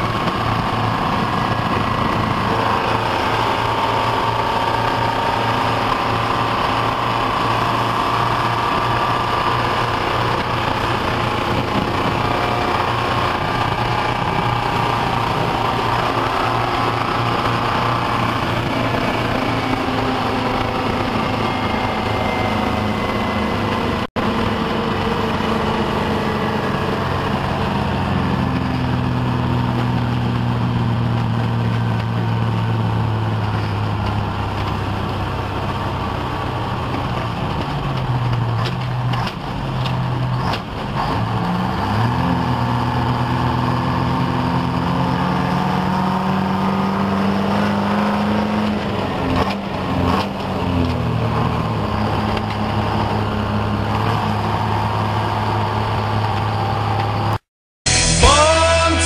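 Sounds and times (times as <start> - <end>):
diesel engine running under load: 0.0 - 57.4.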